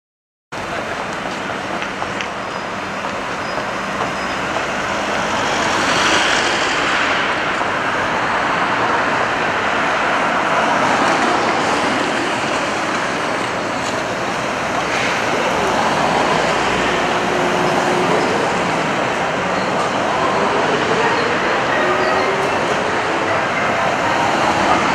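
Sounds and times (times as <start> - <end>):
cars passing: 0.6 - 24.9
streetcar running on tracks: 0.6 - 24.9.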